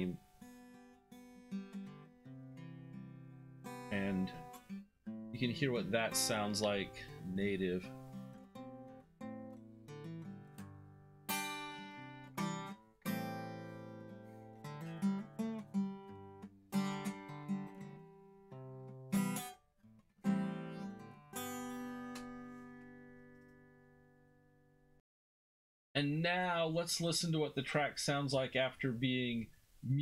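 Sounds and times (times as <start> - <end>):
guitar plucked notes and chords: 0.0 - 25.0.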